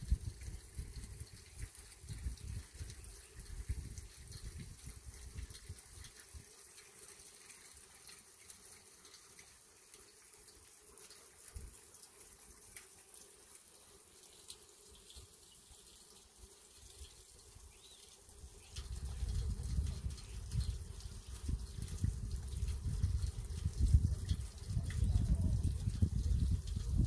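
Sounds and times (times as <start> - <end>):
faint stream flowing: 0.0 - 27.0.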